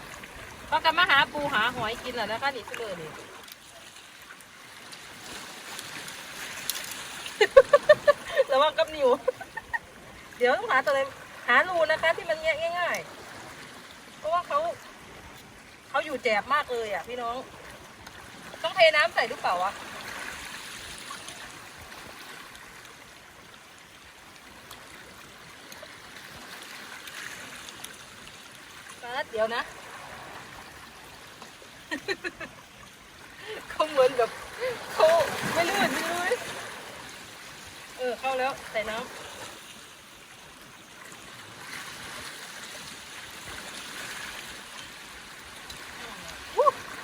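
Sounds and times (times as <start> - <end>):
running water: 0.0 - 47.0
surf washing over rocks: 0.0 - 47.0.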